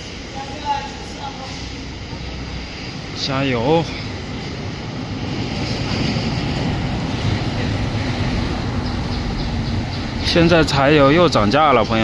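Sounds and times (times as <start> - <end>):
vehicle rumble: 0.0 - 12.0
wind-like hiss: 0.0 - 12.0.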